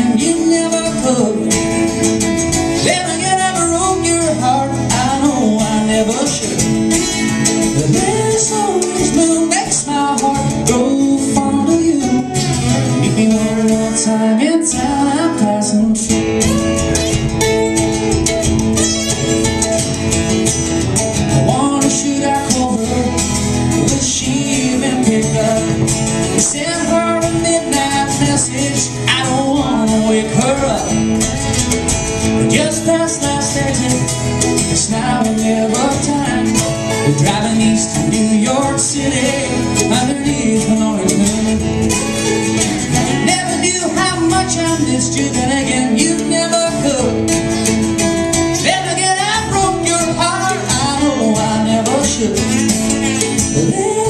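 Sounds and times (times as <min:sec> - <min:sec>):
man singing: 0:00.0 - 0:17.8, 0:20.7 - 0:54.0
acoustic guitars playing: 0:00.0 - 0:54.0.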